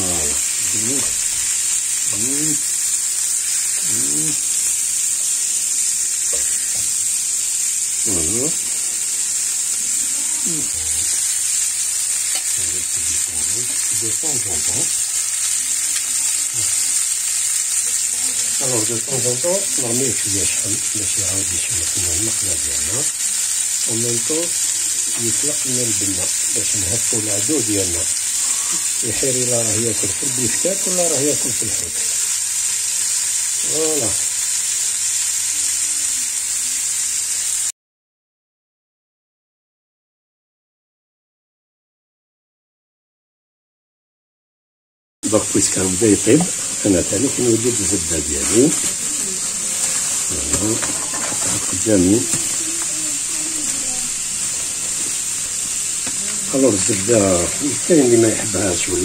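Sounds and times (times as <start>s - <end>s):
fish sizzling in a pan: 0.0s - 37.7s, 45.2s - 59.0s.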